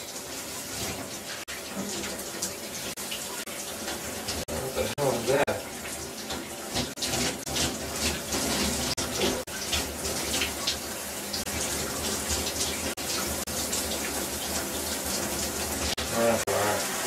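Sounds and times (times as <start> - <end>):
shower water splashing: 0.0 - 17.0.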